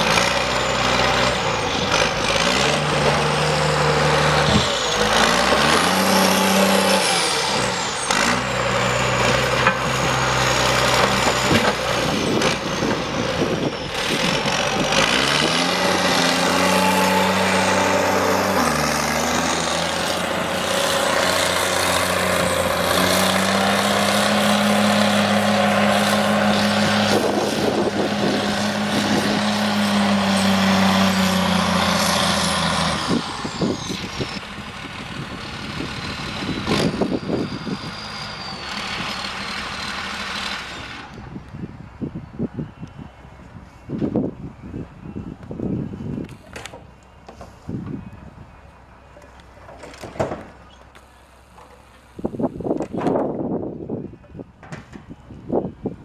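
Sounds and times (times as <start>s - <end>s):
diesel engine revving: 0.0s - 53.9s.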